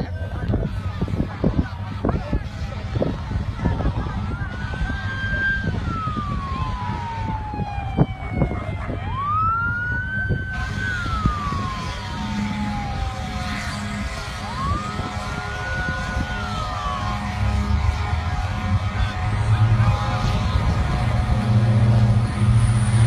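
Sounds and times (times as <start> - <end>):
emergency siren wailing: 0.7 - 23.0.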